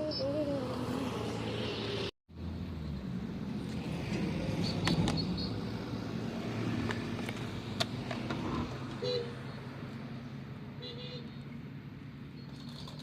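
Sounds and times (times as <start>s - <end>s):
low rumble of vehicles: 0.0s - 13.0s.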